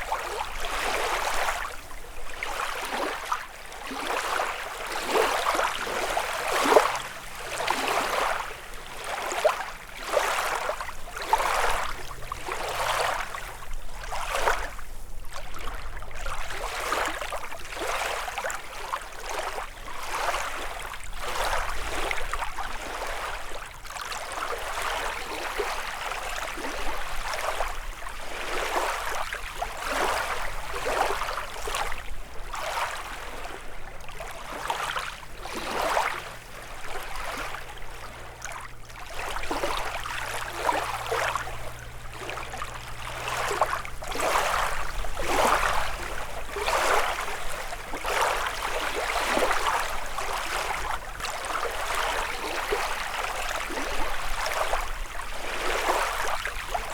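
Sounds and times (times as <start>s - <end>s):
waves lapping against shore: 0.0s - 56.9s.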